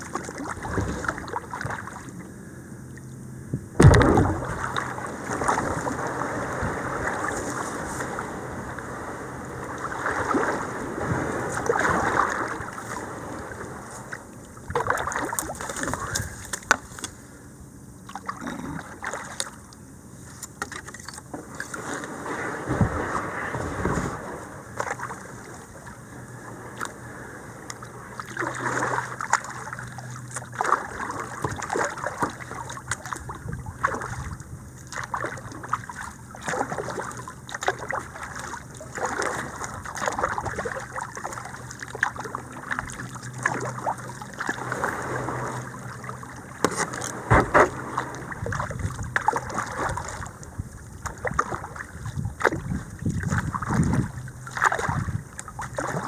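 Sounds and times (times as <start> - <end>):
paddle splashing in water: 0.0 - 2.2, 3.8 - 17.2, 18.0 - 19.6, 20.2 - 56.0
moving water wash: 0.0 - 56.0.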